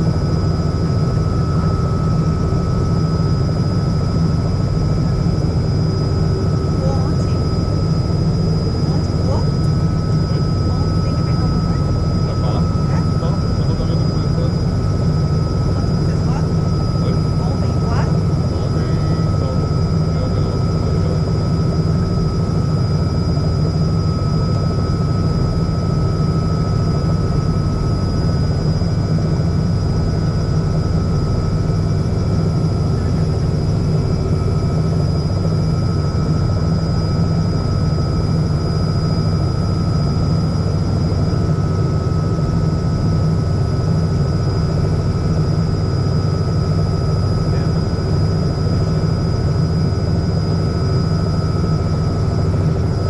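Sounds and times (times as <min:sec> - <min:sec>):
helicopter engine and rotor hum: 0:00.0 - 0:53.0.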